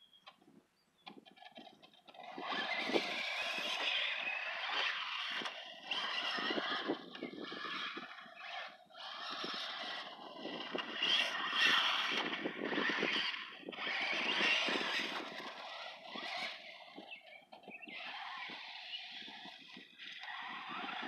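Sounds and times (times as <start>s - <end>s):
toy truck electric motor: 1.1s - 21.0s.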